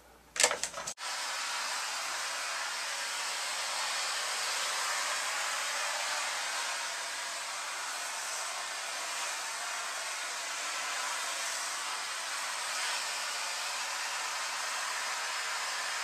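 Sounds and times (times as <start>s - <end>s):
vacuum hose hissing: 1.0s - 16.0s.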